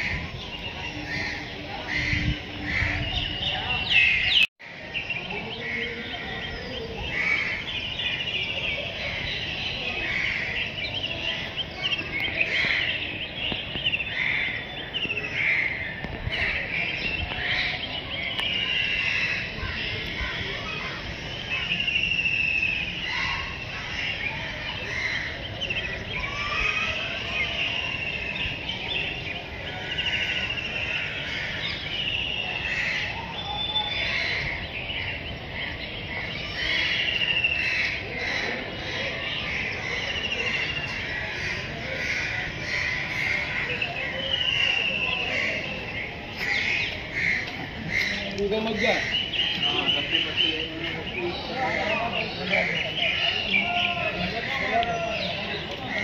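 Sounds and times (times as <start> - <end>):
many birds chirping: 0.0 - 56.0
steady background noise: 0.0 - 56.0.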